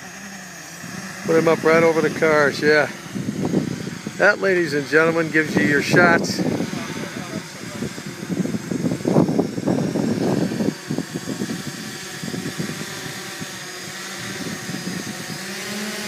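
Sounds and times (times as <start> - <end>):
drone propellers buzzing: 0.0 - 16.0
low buffeting: 0.8 - 15.4.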